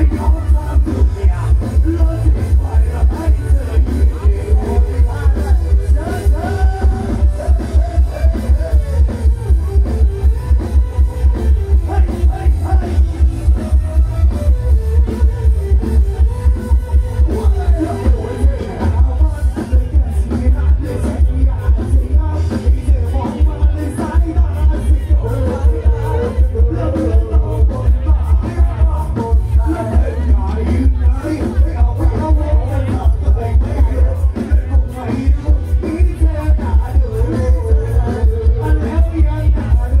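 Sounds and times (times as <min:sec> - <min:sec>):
live band playing dance music: 0:00.0 - 0:40.0
person singing into a microphone: 0:00.0 - 0:40.0.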